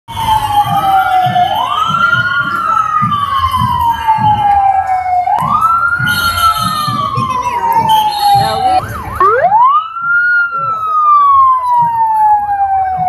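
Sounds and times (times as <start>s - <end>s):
police motorcycle siren wailing: 0.1s - 13.0s.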